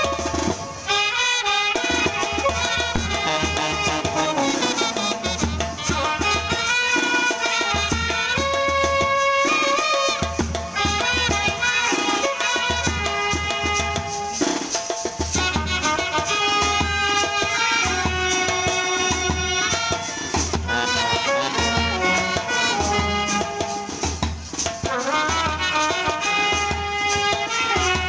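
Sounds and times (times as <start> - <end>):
steady drum beat: 0.0 - 28.0
wind instruments melody: 0.0 - 28.0.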